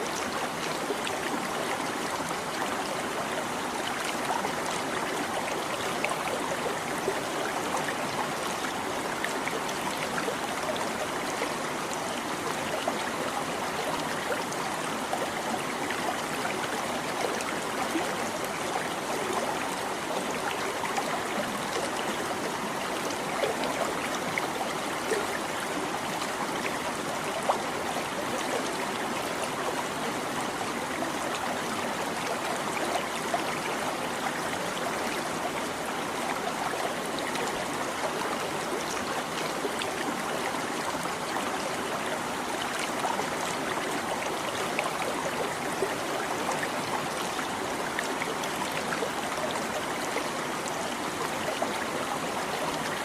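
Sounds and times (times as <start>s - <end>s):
stream babbling over rocks: 0.0s - 53.0s.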